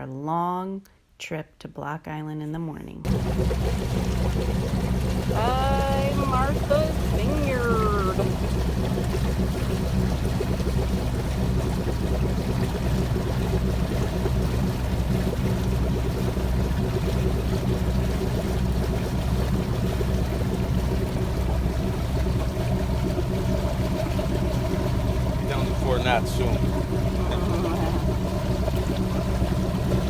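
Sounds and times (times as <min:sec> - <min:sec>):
boat engine droning: 0:03.0 - 0:30.0
water rushing along hull: 0:03.0 - 0:30.0.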